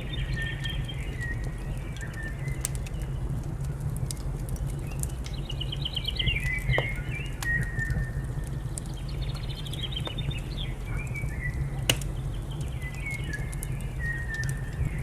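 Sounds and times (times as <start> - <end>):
wood fire crackling: 0.2 - 15.0.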